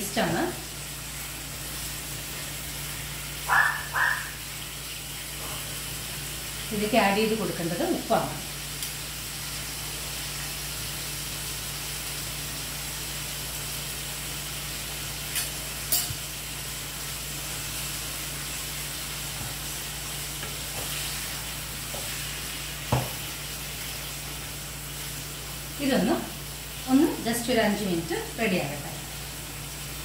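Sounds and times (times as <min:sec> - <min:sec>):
mussels sizzling in a pan: 0:00.0 - 0:30.0.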